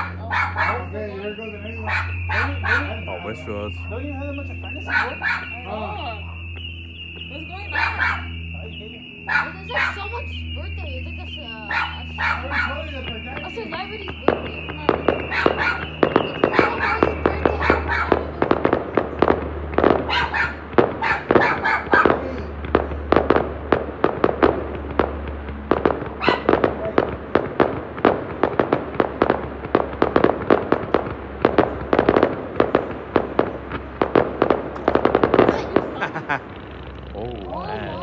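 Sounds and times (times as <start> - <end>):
fireworks bangs: 0.0 - 38.0
fireworks popping and crackling: 0.0 - 38.0
low steady rumble: 0.0 - 38.0.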